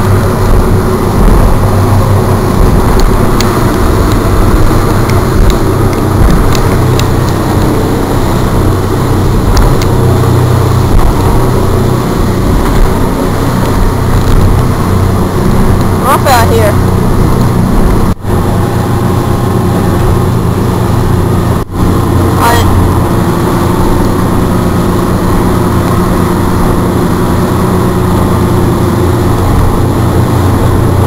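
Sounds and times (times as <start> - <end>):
motorboat engine hum: 0.0 - 31.0
rush of wind and water: 0.0 - 31.0.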